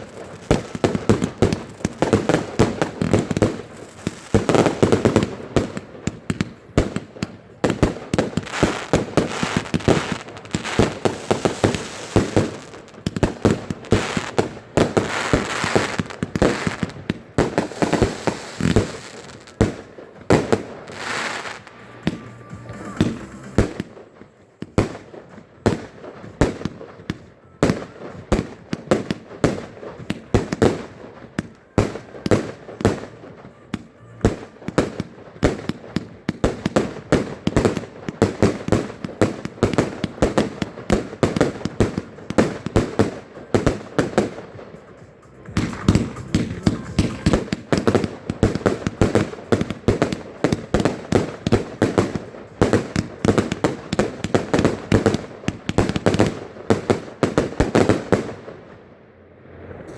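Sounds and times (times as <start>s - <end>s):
fireworks banging and crackling: 0.0s - 58.9s.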